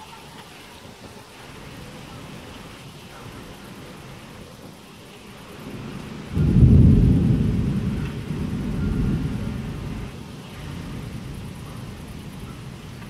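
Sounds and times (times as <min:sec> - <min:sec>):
thunder rumbling: 0:00.8 - 0:13.0.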